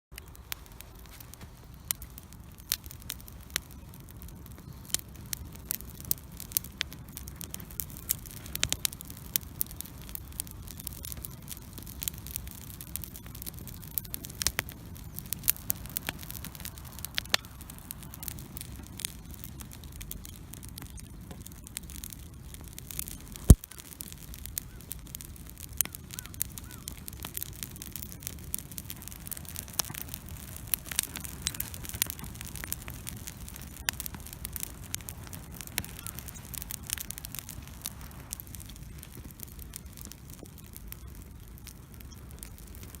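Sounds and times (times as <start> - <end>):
bonfire popping and snapping: 0.1 - 43.0
flames rushing: 0.2 - 43.0.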